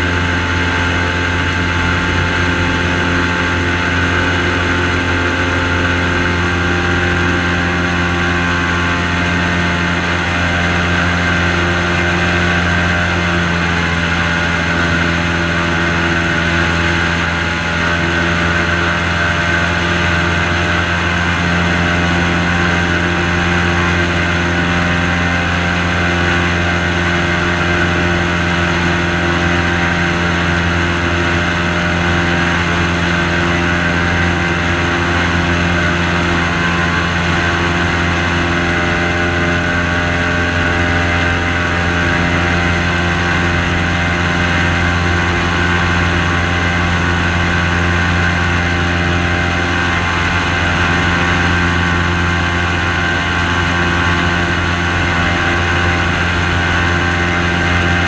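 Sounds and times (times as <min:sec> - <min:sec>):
airboat engine drone: 0:00.0 - 0:58.0.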